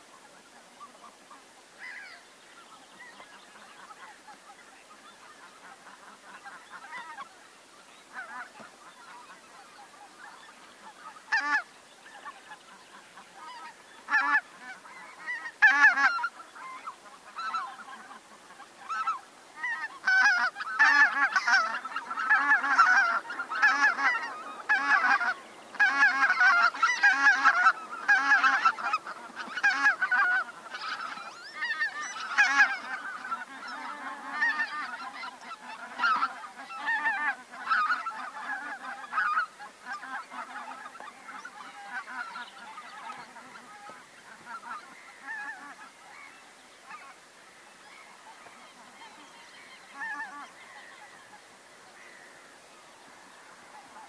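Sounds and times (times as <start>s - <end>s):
geese honking: 0.8s - 2.2s, 2.9s - 7.5s, 8.1s - 51.4s, 53.2s - 54.0s.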